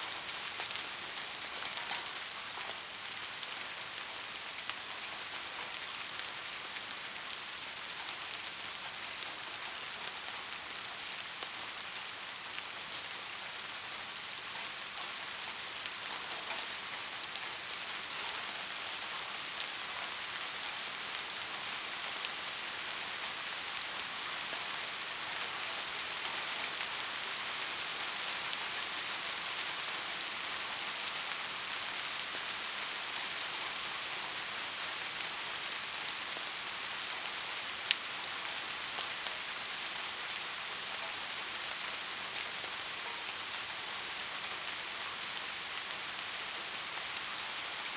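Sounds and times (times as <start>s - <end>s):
soft rain pattering: 0.0s - 47.9s.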